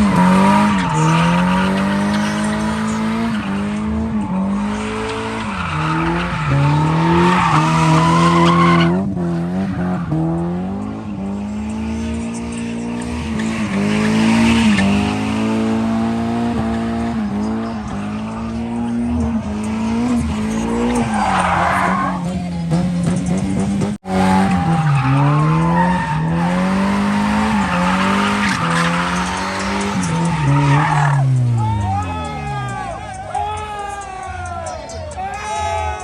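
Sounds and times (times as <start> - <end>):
tyres squealing: 0.0 - 10.5, 11.9 - 36.0
car engine revving: 0.0 - 34.0.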